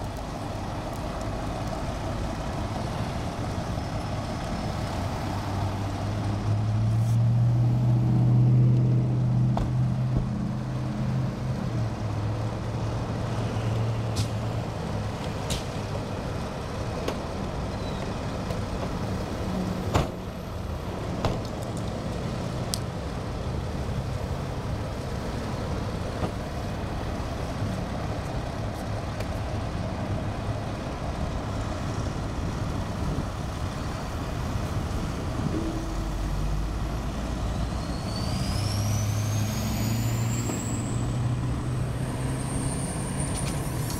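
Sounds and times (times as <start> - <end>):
road traffic: 0.0 - 43.9.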